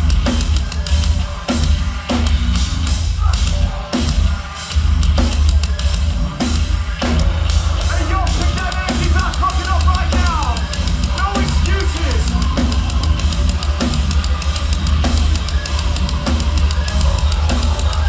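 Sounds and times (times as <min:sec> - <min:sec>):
metal band playing live: 0:00.0 - 0:18.0
rapid bass-drum hits: 0:00.0 - 0:18.0.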